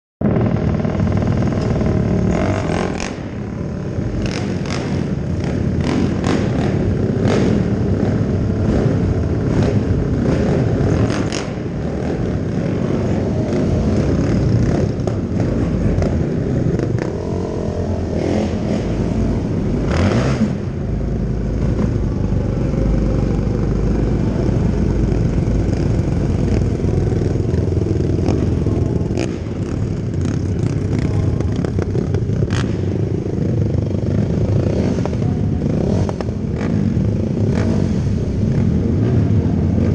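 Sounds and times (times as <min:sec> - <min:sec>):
racing quad engines revving: 0:00.2 - 0:39.9.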